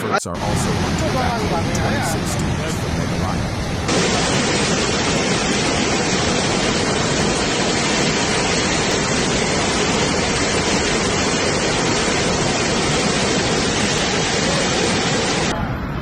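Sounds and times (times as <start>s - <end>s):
floodwater rushing: 0.3s - 15.5s.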